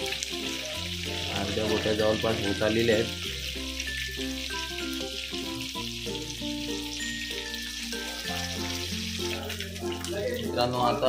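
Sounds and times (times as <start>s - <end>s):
background music with bass and melody: 0.0s - 11.0s
fish sizzling in hot oil: 0.0s - 11.0s.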